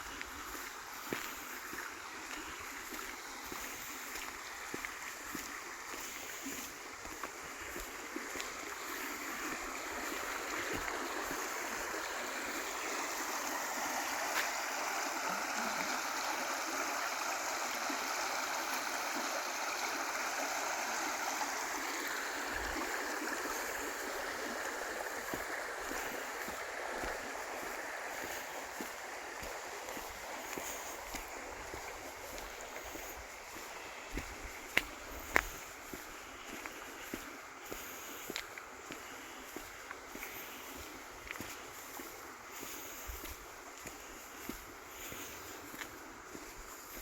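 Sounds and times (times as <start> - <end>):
river water rushing over stones: 0.0 - 47.0.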